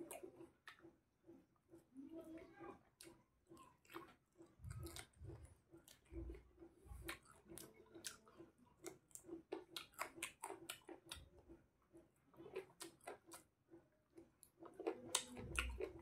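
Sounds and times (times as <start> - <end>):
wet chewing and mouth smacks: 2.9 - 16.0.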